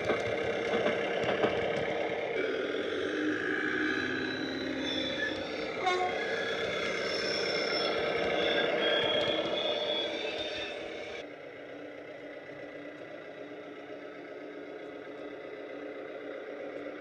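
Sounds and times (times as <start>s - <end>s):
model train wheels on track: 0.0s - 17.0s
railcar engine sound from speaker: 0.0s - 17.0s.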